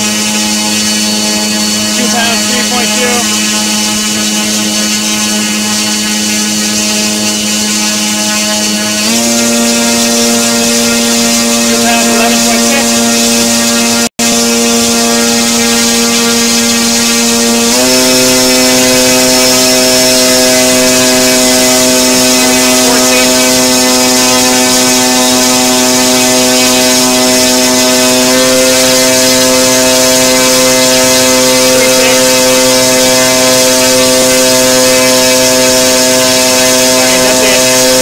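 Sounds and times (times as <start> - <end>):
motor humming loudly: 0.0 - 38.0.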